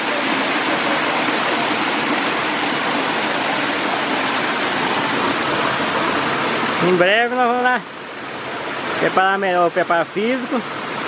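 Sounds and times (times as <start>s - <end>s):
waterfall rushing over boulders: 0.0s - 11.0s.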